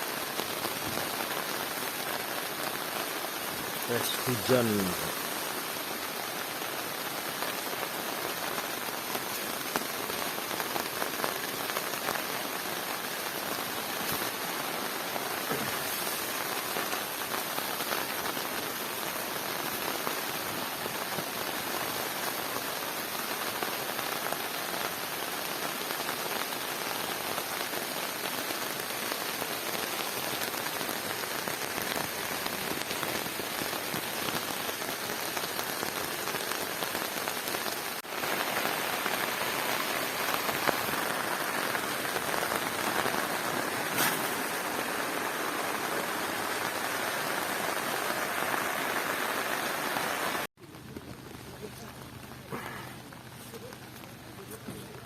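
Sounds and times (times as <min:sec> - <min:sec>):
rain on tent fabric: 0:00.0 - 0:55.0.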